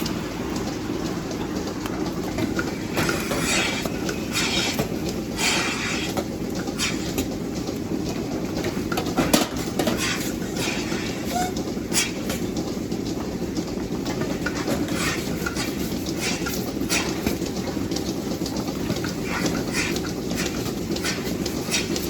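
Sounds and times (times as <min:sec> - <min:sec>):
machinery rumble: 0:00.0 - 0:22.0.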